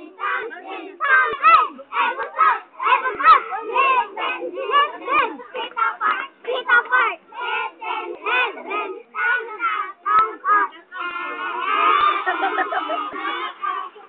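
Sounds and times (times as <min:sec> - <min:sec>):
children shouting: 0:00.0 - 0:14.0
girls singing together: 0:00.0 - 0:14.0.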